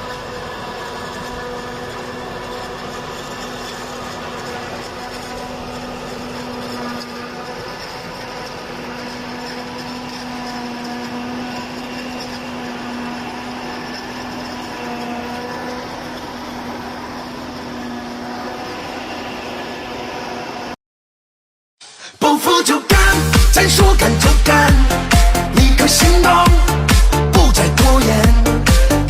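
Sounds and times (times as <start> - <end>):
harvester diesel engine humming: 0.0 - 20.8, 22.9 - 29.0
harvester machinery working: 0.0 - 20.8, 22.4 - 29.0.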